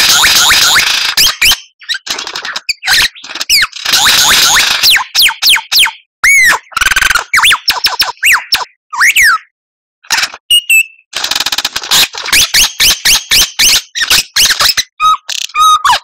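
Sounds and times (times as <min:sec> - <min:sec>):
songbird whistling song: 0:00.2 - 0:09.5, 0:10.5 - 0:11.1, 0:12.3 - 0:16.0.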